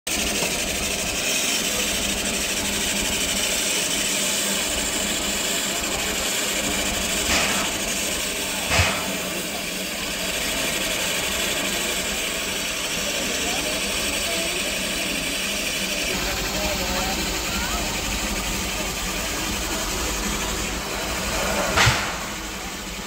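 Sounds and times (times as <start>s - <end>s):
steam locomotive hissing: 0.1s - 23.0s
rushes of steam: 0.2s - 23.0s.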